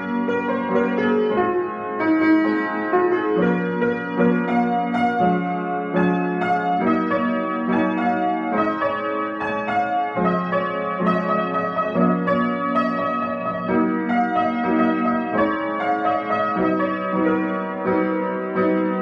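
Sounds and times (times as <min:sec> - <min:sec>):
upright piano playing: 0:00.0 - 0:19.0.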